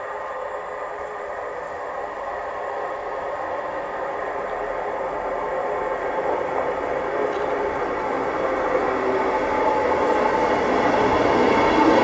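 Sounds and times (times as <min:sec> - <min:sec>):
diesel train approaching: 0:00.0 - 0:12.0.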